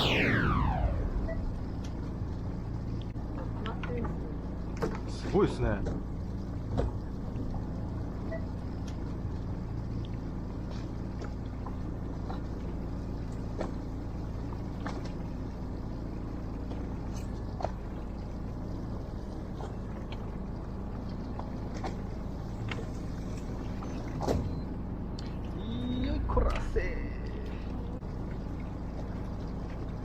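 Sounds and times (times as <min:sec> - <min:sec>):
boat engine humming: 0:00.0 - 0:30.0.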